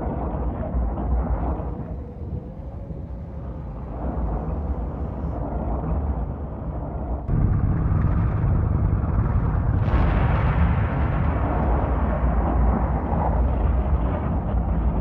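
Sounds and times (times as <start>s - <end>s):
deep rumbling noise: 0.0s - 15.0s.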